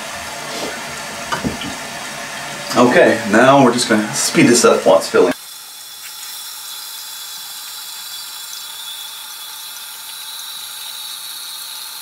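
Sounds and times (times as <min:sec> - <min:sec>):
water hissing into toilet tank: 0:00.0 - 0:12.0.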